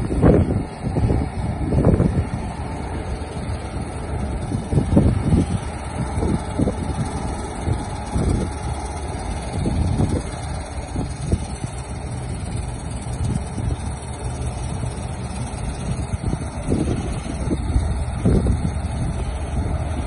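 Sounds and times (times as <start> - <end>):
combine harvester engine drone: 0.0 - 20.0
wind buffeting microphone: 0.0 - 20.0.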